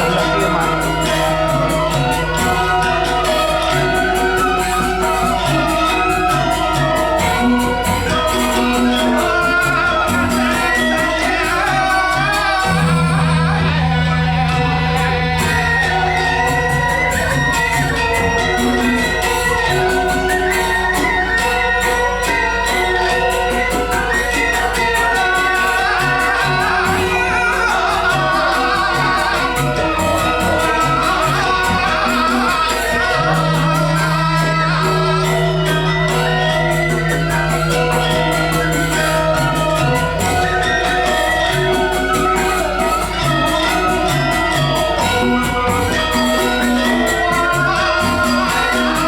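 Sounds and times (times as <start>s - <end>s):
gamelan playing: 0.0s - 49.0s.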